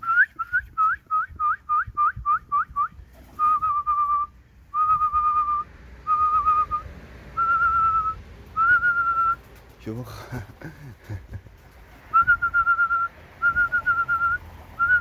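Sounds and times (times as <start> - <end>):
person whistling: 0.0 - 9.4, 12.2 - 15.0.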